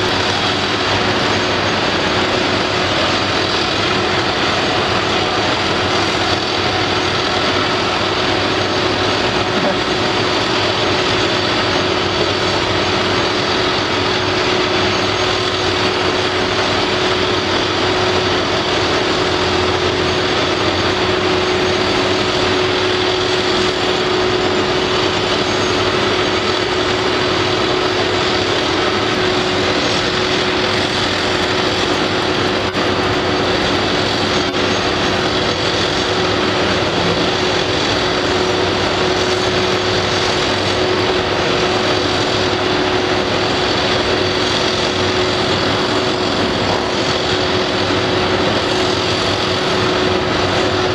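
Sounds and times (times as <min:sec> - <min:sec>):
heavy construction machinery drone: 0:00.0 - 0:50.9
mid-pitched hum: 0:00.0 - 0:50.9.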